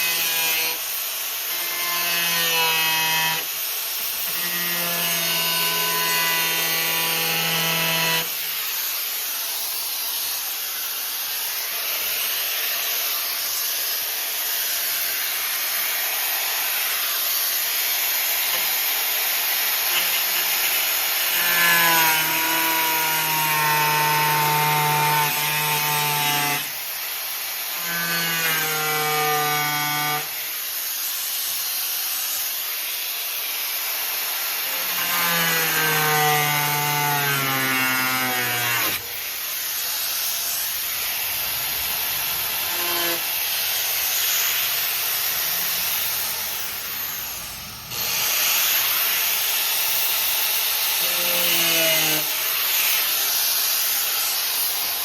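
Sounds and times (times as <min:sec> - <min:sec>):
harsh hiss of grinding steel: 0:00.0 - 0:55.0
power tool motor whine: 0:00.0 - 0:55.0.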